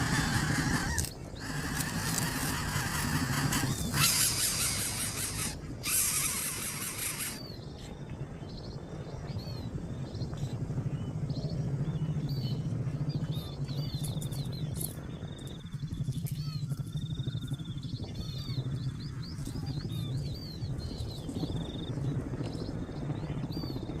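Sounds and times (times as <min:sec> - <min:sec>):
small birds chirping: 0:00.0 - 0:24.0
steady low hum: 0:00.0 - 0:24.0.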